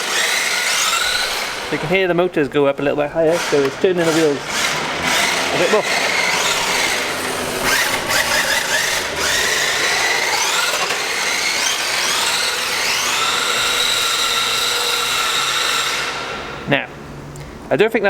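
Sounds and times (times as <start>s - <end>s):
electric motors whining: 0.0s - 17.2s.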